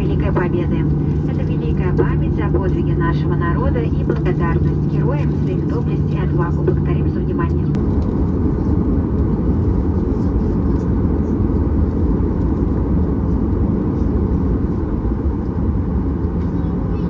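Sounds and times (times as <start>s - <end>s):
aircraft cabin engine rumble: 0.0s - 17.0s
aircraft rolling on ground: 0.0s - 17.0s.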